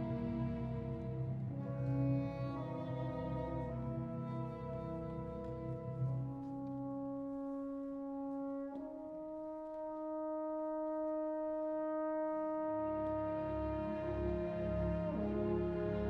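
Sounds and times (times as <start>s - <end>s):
symphony orchestra playing: 0.0s - 16.0s.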